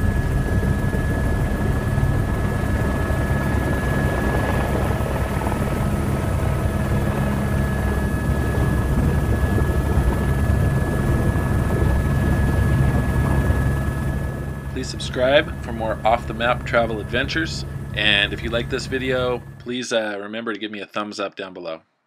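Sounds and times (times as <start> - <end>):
helicopter turbine and rotor drone: 0.0 - 19.7
high turbine whine: 0.0 - 19.8.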